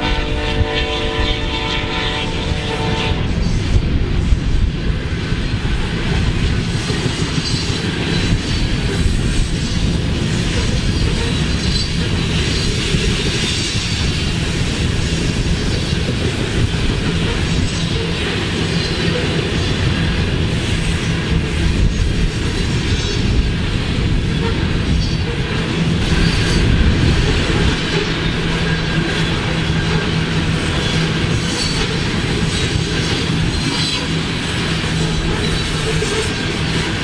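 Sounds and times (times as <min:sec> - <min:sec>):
train wheels rumbling and clacking: 0:00.0 - 0:37.0
train wheels squealing: 0:05.2 - 0:37.0.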